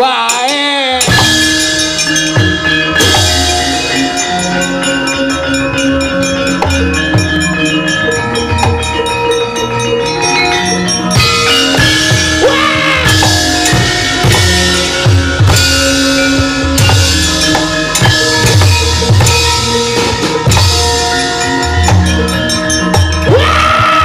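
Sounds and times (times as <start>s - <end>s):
driving drum pattern: 0.0s - 24.0s
metallophones ringing: 0.0s - 24.0s.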